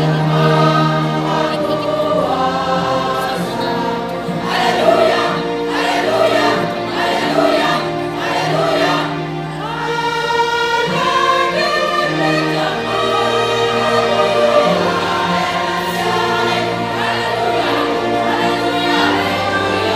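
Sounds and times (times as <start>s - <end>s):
choir singing sustained chords: 0.0s - 19.9s.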